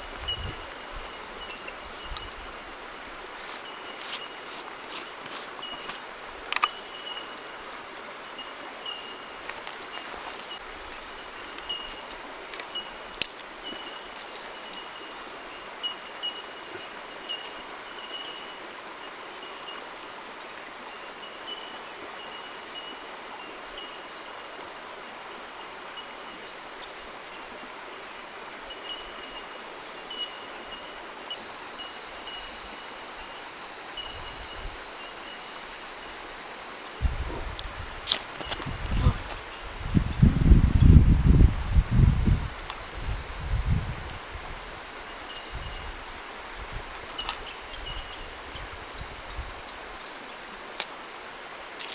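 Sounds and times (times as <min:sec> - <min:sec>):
stream water running: 0:00.0 - 0:51.9.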